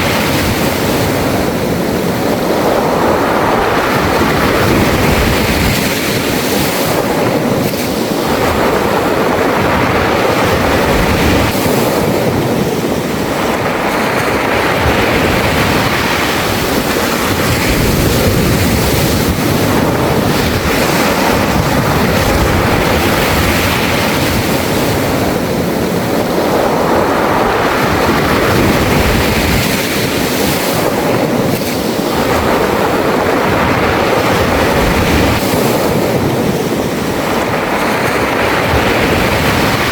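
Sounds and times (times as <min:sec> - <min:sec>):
waves washing on pebble beach: 0:00.0 - 0:39.9.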